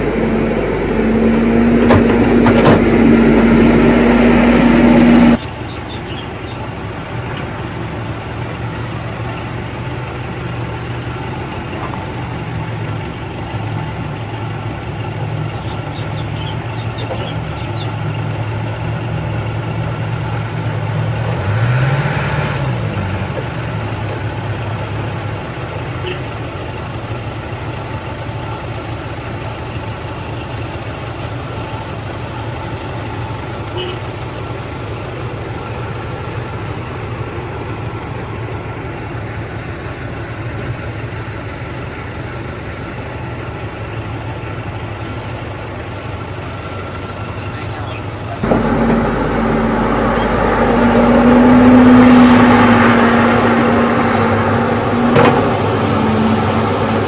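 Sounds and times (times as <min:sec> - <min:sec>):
dump truck engine idling: 0:00.0 - 0:21.4, 0:22.8 - 0:57.0
excavator engine humming: 0:00.0 - 0:57.0.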